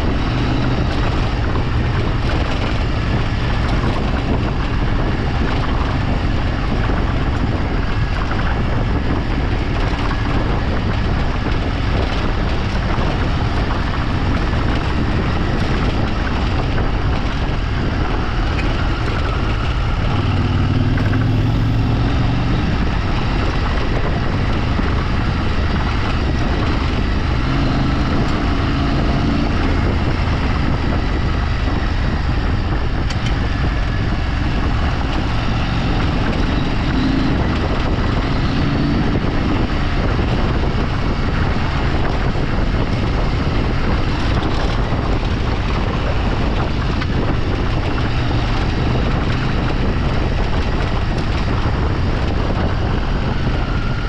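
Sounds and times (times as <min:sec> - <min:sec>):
vehicle engine running: 0:00.0 - 0:54.0
wind on microphone: 0:00.0 - 0:54.0.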